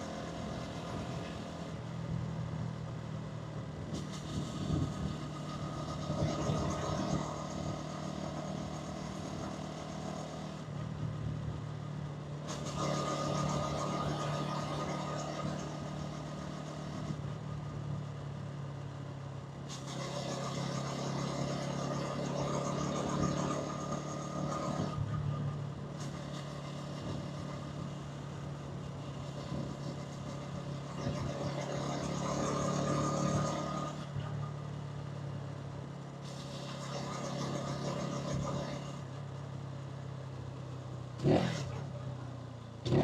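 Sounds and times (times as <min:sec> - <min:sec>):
rushing wind and road noise: 0:00.0 - 0:39.4
motorcycle engine running: 0:00.0 - 0:43.0.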